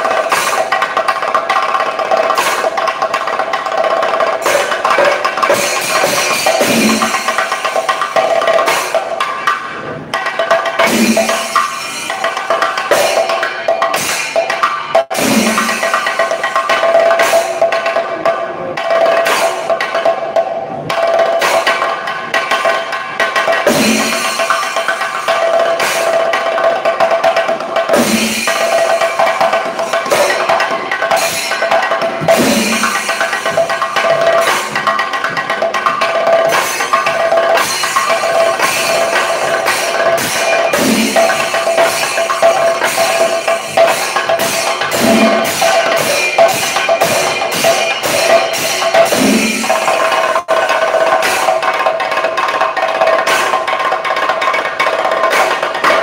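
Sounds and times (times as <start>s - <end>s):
drums beaten with sticks: 0.0s - 56.0s.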